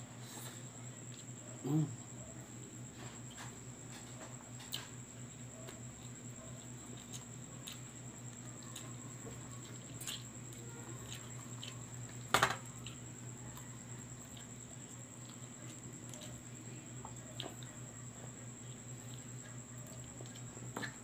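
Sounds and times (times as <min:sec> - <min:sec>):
steady low hum: 0:00.0 - 0:21.0
chewing: 0:00.2 - 0:21.0.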